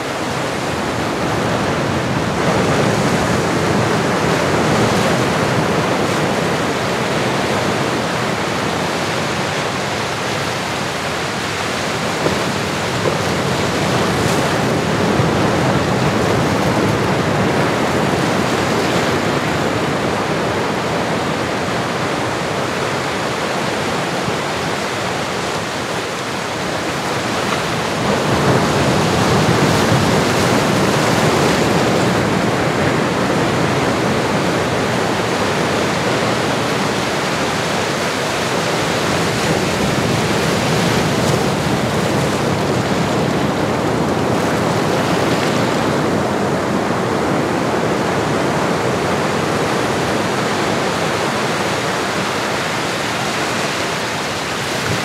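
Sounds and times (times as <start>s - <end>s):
ocean waves rushing: 0.0s - 55.0s.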